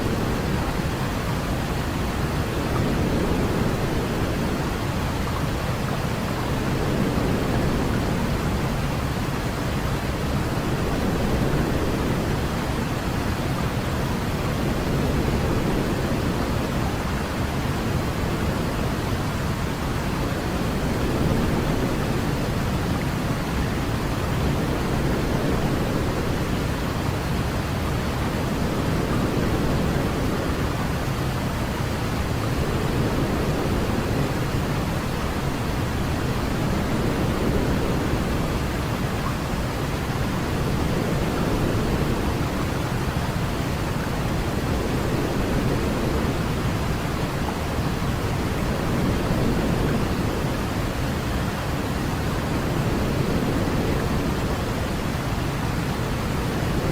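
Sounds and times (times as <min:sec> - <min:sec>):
low white noise hiss: 0:00.0 - 0:56.9.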